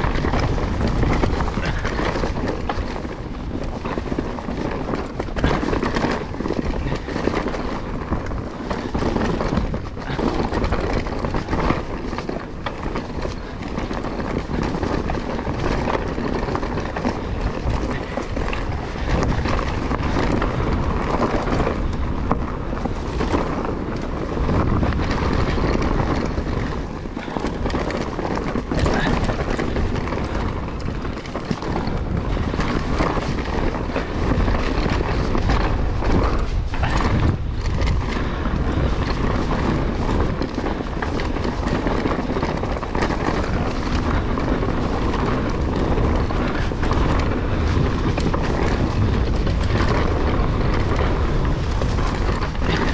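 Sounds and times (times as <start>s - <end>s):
bike clattering and ticking: 0.0s - 52.9s
bike tyres rolling over dirt: 0.0s - 52.9s
wind buffeting microphone: 0.0s - 52.9s.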